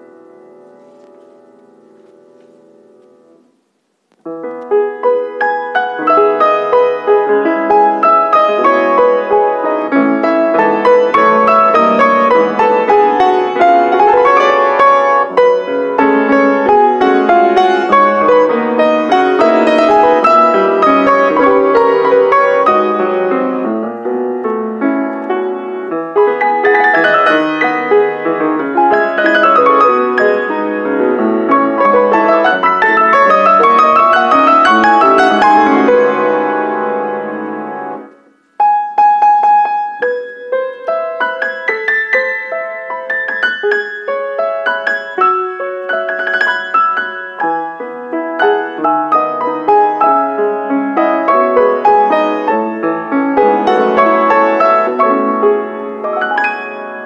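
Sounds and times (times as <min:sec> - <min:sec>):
classical piano duet: 0:00.0 - 0:57.0.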